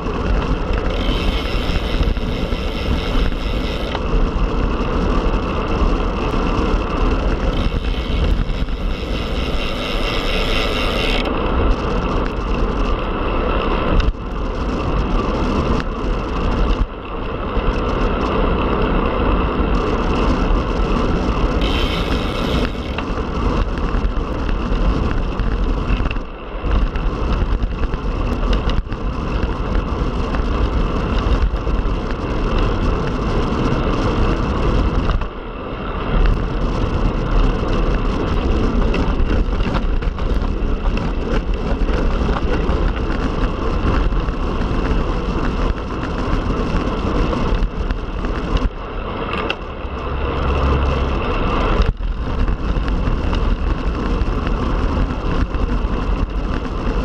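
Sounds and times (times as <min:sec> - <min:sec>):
wind and road rush from bike: 0:00.0 - 0:57.0.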